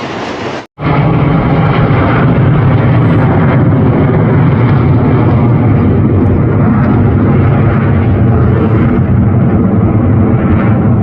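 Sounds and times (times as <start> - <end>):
jet aircraft overhead: 0.0 - 11.0.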